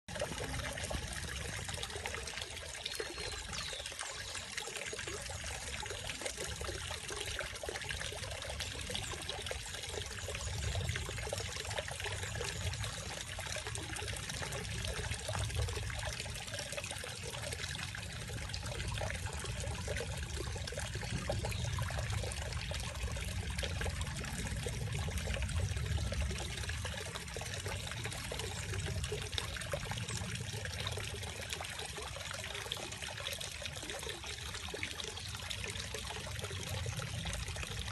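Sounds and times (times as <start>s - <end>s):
fountain water trickling into pond: 0.1s - 37.9s.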